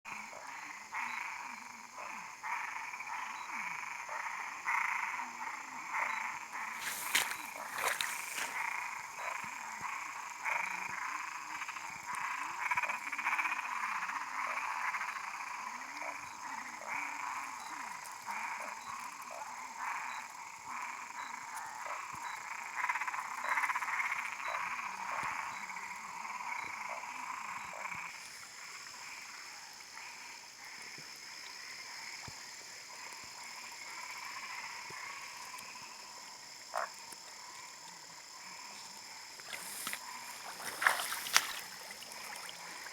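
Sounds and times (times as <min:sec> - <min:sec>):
frogs croaking in chorus: 0:00.1 - 0:42.9.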